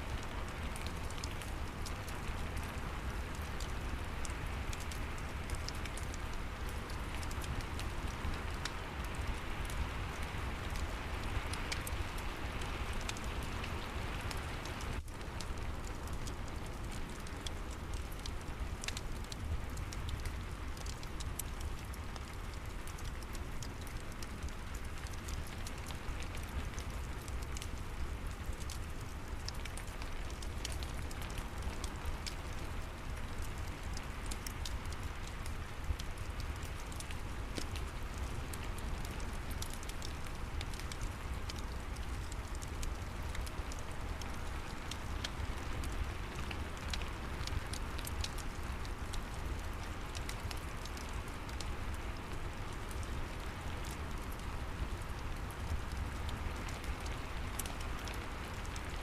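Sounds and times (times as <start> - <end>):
steady rain: 0.0 - 59.0
fireplace crackling: 0.1 - 10.9, 11.6 - 58.8.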